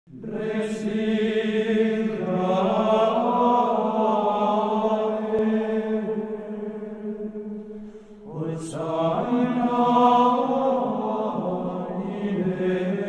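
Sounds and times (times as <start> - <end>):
slow chant-like music: 0.1 - 13.0.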